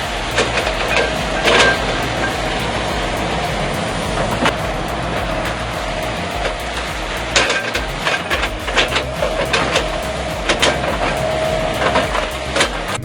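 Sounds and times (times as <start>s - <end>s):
heavy machine running: 0.0s - 13.0s.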